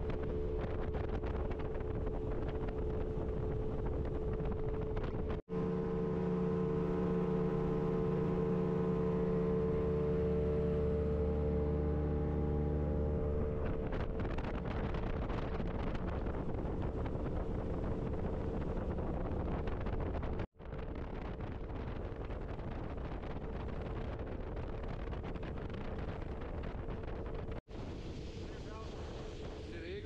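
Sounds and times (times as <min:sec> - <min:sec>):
jet boat engine whine: 0:00.0 - 0:30.0
wind buffeting microphone: 0:00.0 - 0:30.0.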